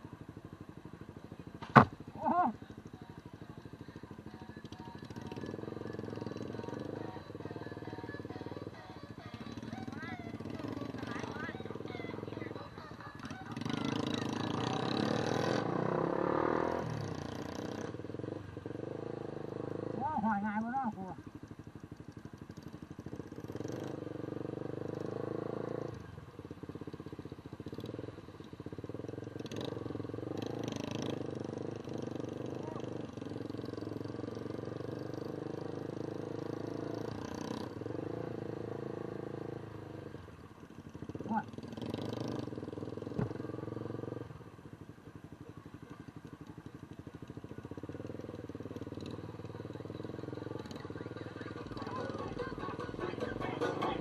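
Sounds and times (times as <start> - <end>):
engine running with pulsing beat: 0.0 - 54.0.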